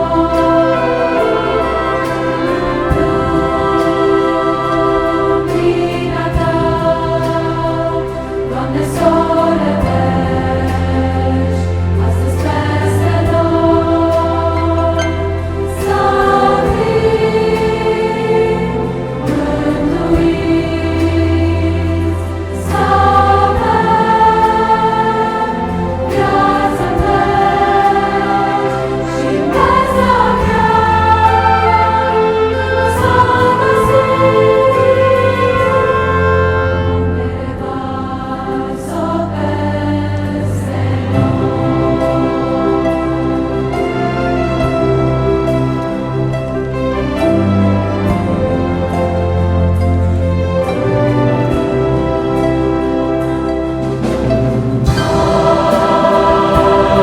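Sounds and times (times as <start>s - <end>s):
choir singing long notes: 0.0s - 57.0s
instrumental accompaniment: 0.0s - 57.0s.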